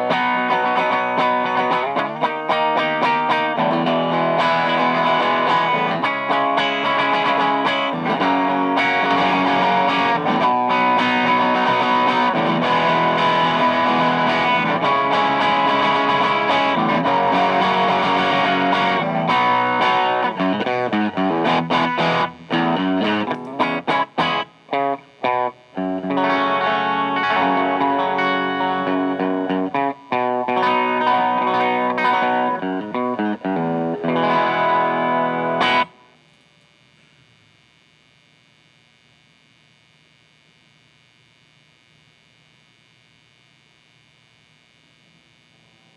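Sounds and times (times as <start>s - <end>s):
overdriven electric guitar chords: 0.0s - 40.3s.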